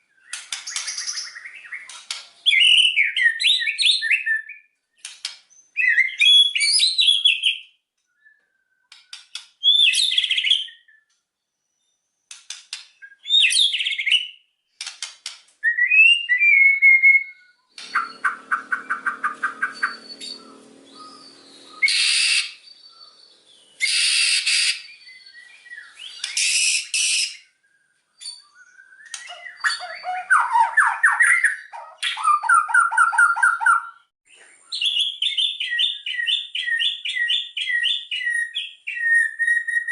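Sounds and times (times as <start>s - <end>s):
bird singing varied song: 0.0s - 14.5s, 15.6s - 39.9s.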